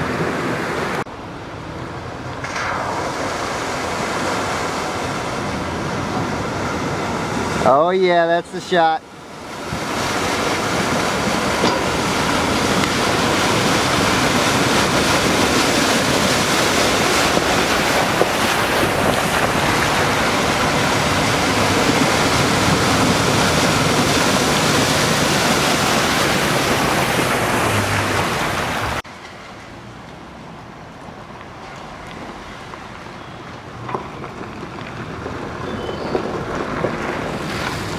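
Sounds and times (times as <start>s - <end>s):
truck wheels splashing water: 0.0s - 37.9s.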